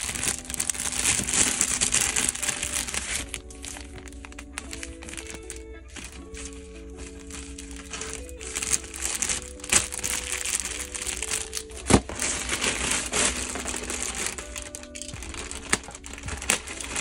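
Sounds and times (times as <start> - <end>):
background music with held notes: 0.0 - 17.0
plastic bags crinkling: 0.0 - 17.0.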